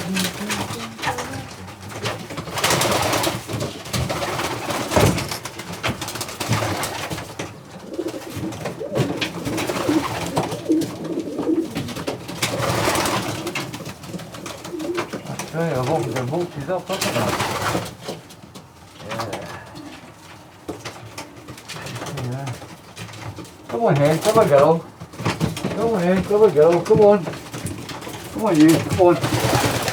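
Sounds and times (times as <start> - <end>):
pigeons cooing: 0.0 - 29.9.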